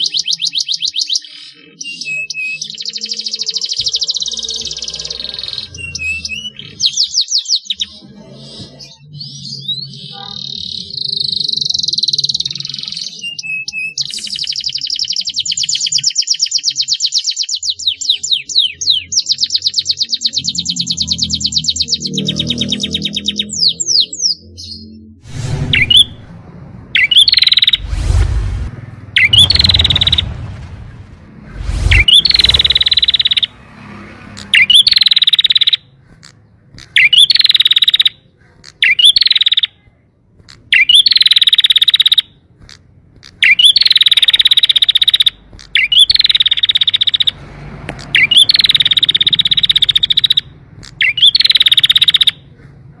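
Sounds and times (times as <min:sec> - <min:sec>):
canary singing buzzing trills: 0:00.0 - 0:25.1, 0:31.9 - 0:33.6, 0:34.3 - 0:39.8, 0:40.5 - 0:42.4, 0:43.2 - 0:47.4, 0:48.0 - 0:52.5.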